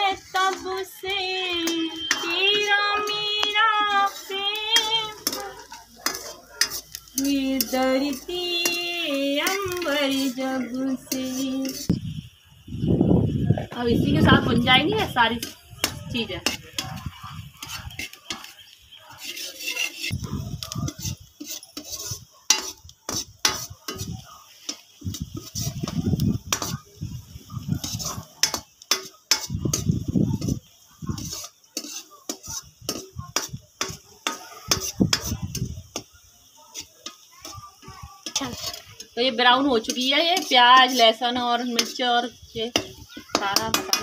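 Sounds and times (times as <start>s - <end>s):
metal utensils scraping a wok: 0.0s - 12.4s, 13.3s - 44.0s
faint sizzle of frying: 0.0s - 44.0s.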